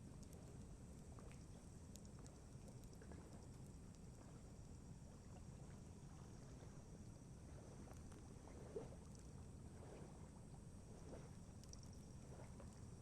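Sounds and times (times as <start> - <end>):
lake water: 0.0 - 13.0
wind: 0.0 - 13.0.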